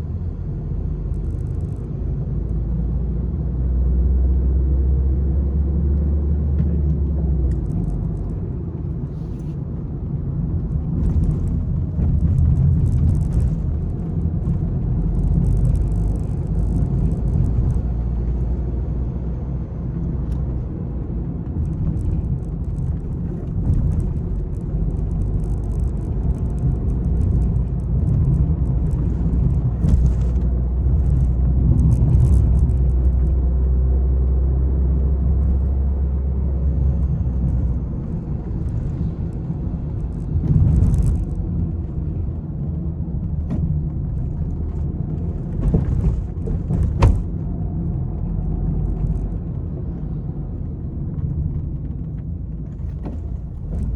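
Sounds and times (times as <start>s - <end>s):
car engine under load: 0.0s - 53.9s
heavy road rumble: 0.0s - 53.9s.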